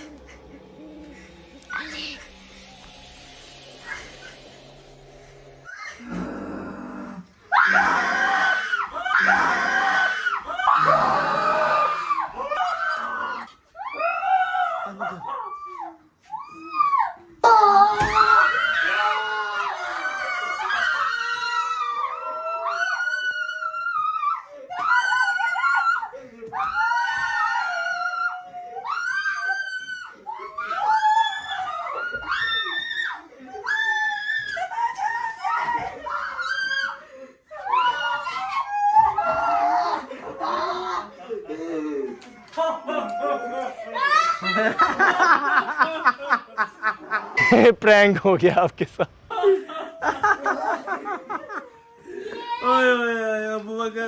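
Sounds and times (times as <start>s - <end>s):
girls screaming: 0.0s - 41.2s, 42.2s - 45.0s.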